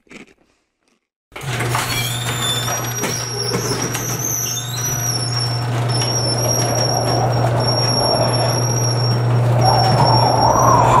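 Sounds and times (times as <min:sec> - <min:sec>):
door rolling rumble: 0:01.4 - 0:11.0
garage door motor hum: 0:01.4 - 0:11.0
rollers squealing: 0:01.6 - 0:11.0.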